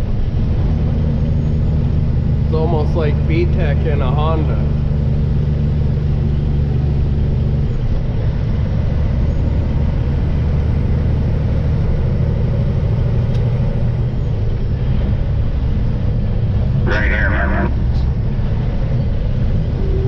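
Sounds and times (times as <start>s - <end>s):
diesel truck engine droning: 0.0s - 20.0s.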